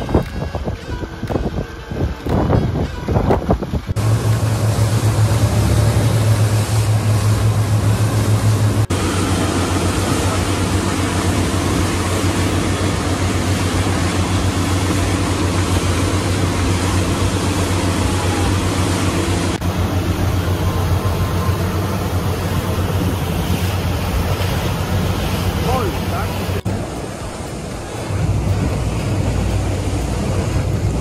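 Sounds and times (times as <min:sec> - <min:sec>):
outboard motors droning: 0:00.0 - 0:31.0
wind and water rushing: 0:00.0 - 0:31.0.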